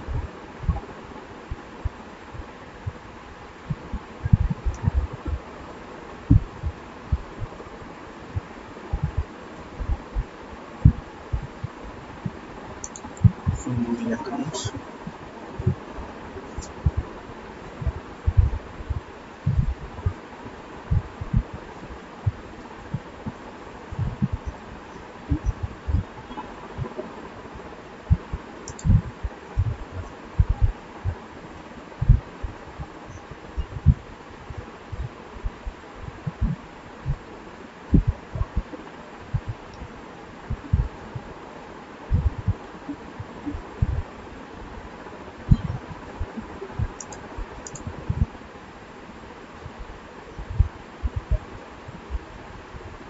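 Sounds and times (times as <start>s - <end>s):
soft low thumps: 0.0s - 0.9s, 1.5s - 5.6s, 6.3s - 20.2s, 20.9s - 27.1s, 28.1s - 31.2s, 32.0s - 37.3s, 37.9s - 41.3s, 42.1s - 44.1s, 45.5s - 47.1s, 47.7s - 48.4s, 49.6s - 53.0s
background hiss: 0.0s - 53.0s.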